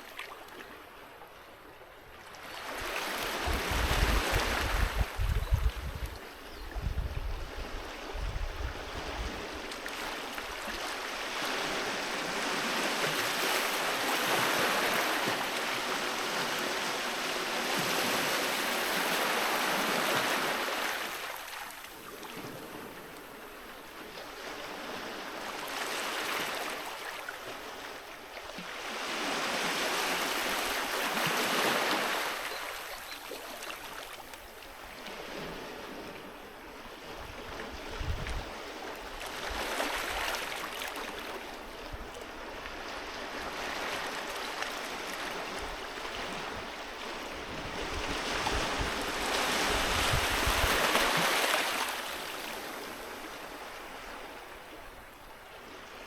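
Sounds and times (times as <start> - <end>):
sea waves washing onto shore: 7.4 - 56.0.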